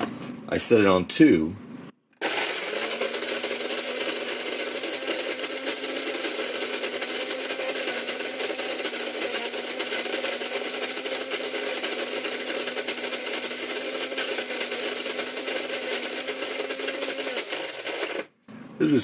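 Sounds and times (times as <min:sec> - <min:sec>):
coffee grinder grinding beans: 0:02.2 - 0:18.3.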